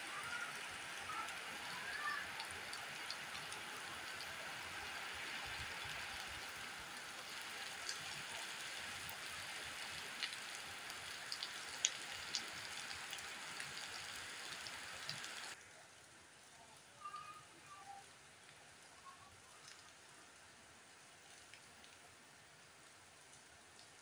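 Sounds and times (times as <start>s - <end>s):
rain on concrete: 0.0s - 24.0s.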